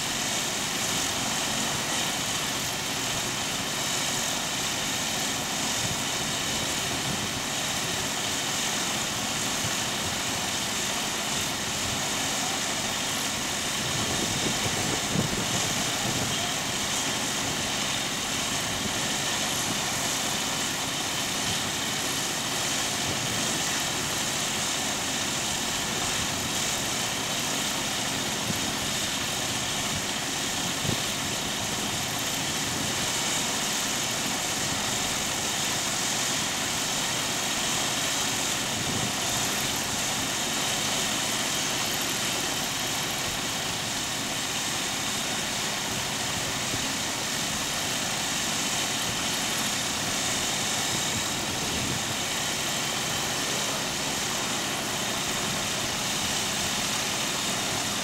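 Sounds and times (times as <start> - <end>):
aircraft engines idling: 0.0 - 58.0.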